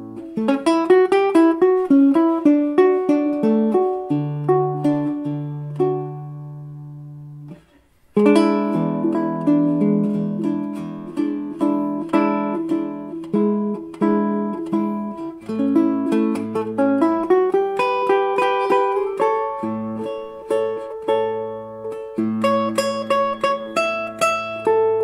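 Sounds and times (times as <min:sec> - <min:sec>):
plucked string instrument music: 0:00.0 - 0:25.0.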